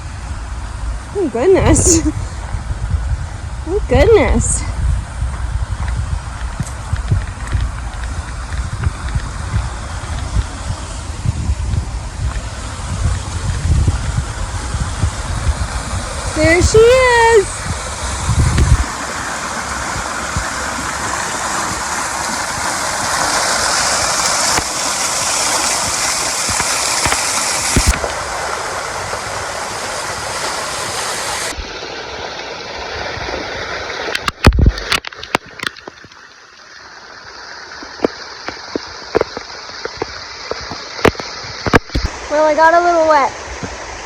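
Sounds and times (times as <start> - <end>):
waterfall rushing: 6.4 - 44.0.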